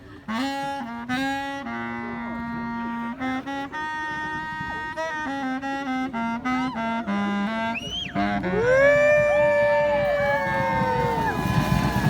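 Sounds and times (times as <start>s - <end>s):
street band of horns and reeds: 0.0s - 12.0s.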